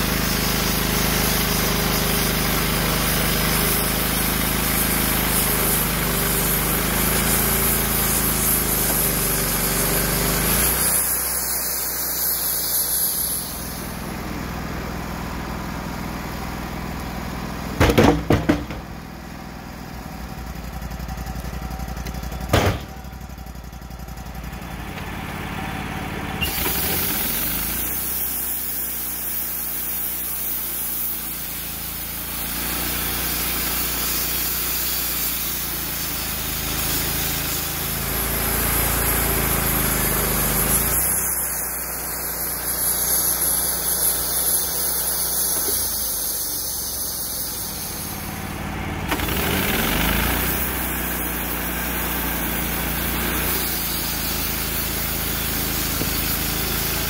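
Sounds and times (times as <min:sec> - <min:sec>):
band sawmill running: 0:00.0 - 0:57.0.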